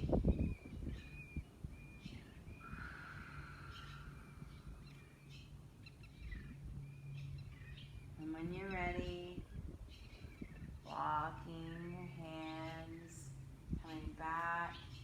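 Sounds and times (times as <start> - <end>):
birds calling: 0.0 - 15.0
low steady rumble: 0.0 - 15.0.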